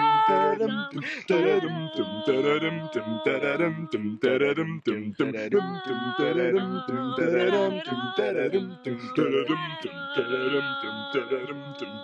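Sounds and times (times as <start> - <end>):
voices singing in harmony: 0.0 - 12.0.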